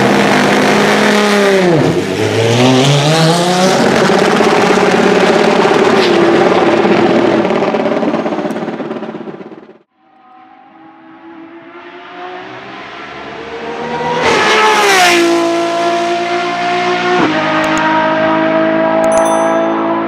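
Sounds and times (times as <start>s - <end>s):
car engine accelerating: 0.0s - 9.4s, 10.2s - 19.0s.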